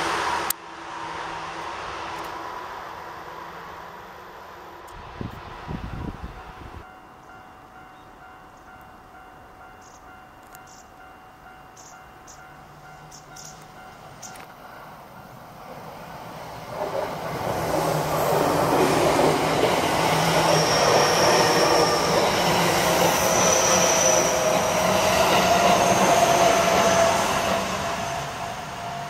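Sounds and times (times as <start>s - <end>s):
train passing at speed: 0.0s - 29.0s.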